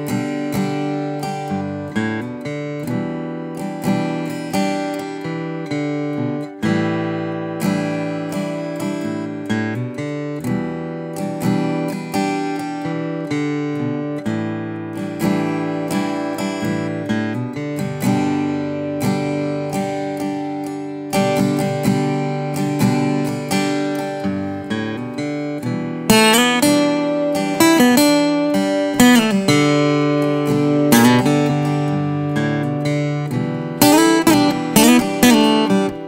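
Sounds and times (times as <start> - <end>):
acoustic guitar fingerpicking: 0.0 - 36.0.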